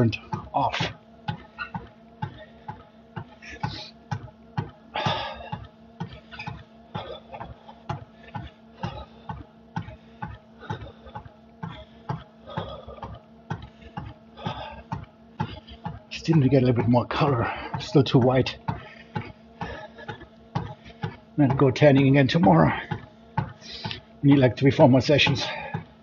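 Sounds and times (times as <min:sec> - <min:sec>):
footfalls on cardio machine: 0:00.0 - 0:26.0
machine hum: 0:00.0 - 0:26.0.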